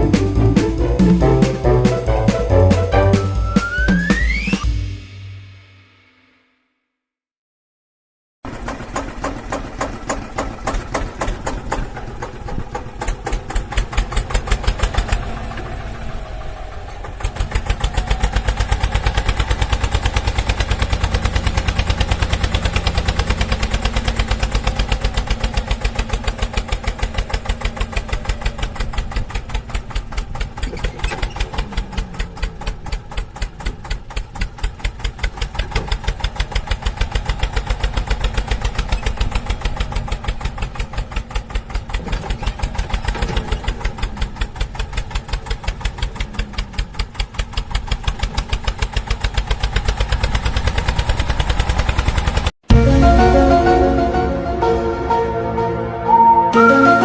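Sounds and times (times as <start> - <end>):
tractor diesel engine chugging: 0.0 - 4.9, 8.5 - 57.0.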